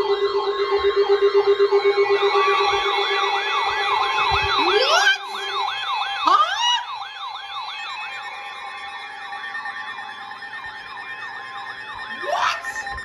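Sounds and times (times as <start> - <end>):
warbling alert siren: 0.0 - 10.1, 12.0 - 13.0.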